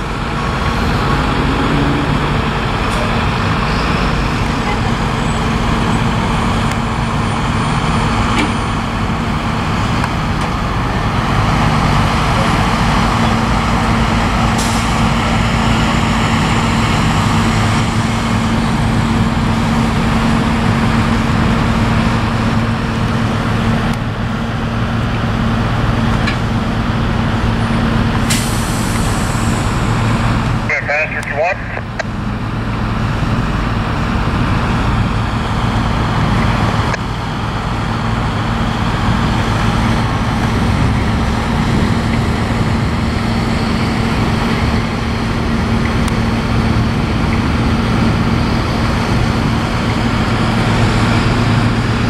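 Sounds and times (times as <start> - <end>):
diesel truck engine drone: 0.0 - 52.0.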